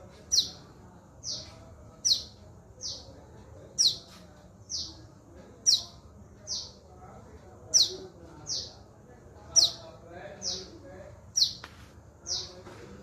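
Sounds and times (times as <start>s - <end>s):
fledgling birds chirping: 0.0s - 13.0s.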